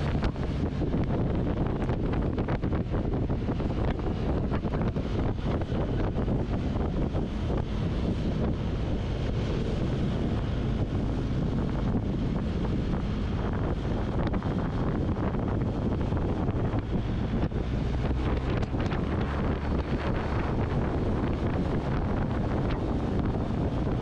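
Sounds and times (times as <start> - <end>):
motorcycle engine drone: 0.0 - 24.0
wind rushing over microphone: 0.0 - 24.0.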